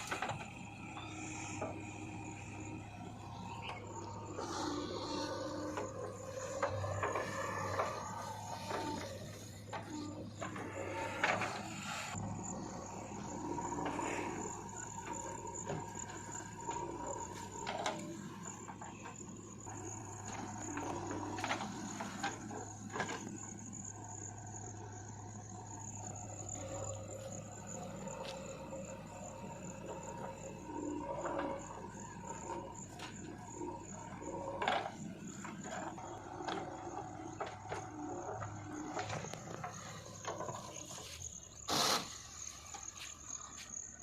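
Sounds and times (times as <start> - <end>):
diesel machinery engine hum: 0.0 - 44.0.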